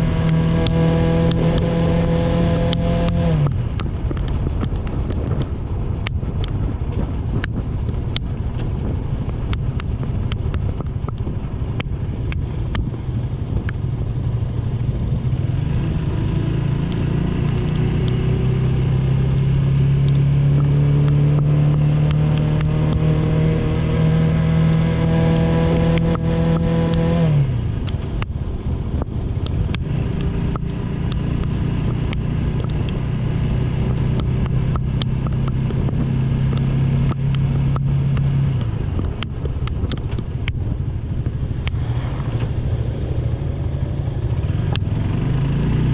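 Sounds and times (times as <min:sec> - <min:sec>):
motorcycle engine accelerating: 0:00.0 - 0:45.9
wind noise: 0:00.0 - 0:45.9.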